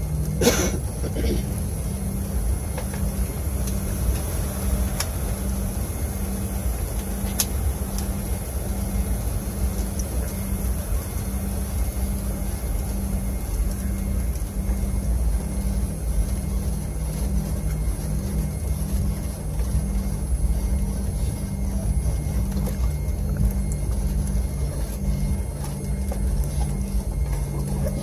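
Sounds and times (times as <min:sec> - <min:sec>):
high steady whine: 0:00.0 - 0:28.0
jet engines rumbling: 0:00.0 - 0:28.0.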